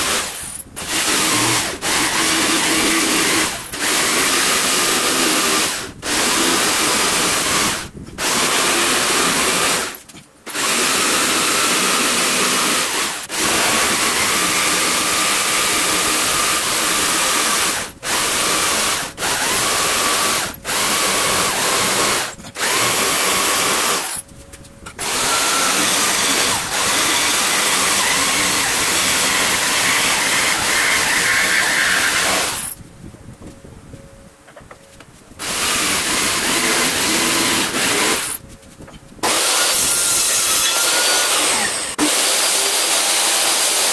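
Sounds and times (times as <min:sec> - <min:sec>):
jigsaw cutting wood: 0:00.0 - 0:24.2, 0:25.0 - 0:32.8, 0:35.4 - 0:38.4, 0:39.2 - 0:43.9.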